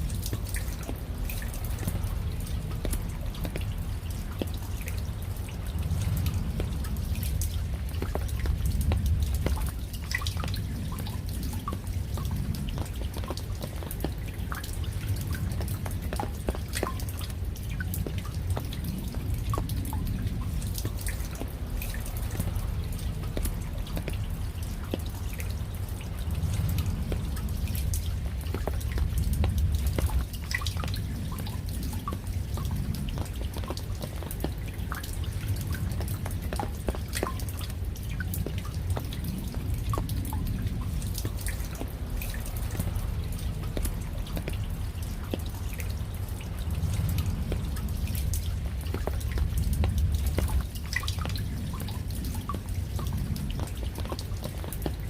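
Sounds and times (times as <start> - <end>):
low rumble: 0.0 - 55.0
raindrops dripping and ticking: 0.0 - 55.0.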